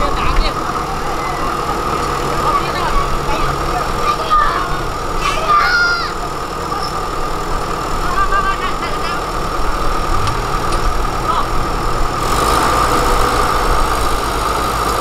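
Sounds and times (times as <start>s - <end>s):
diesel engine of heavy machinery: 0.0s - 15.0s.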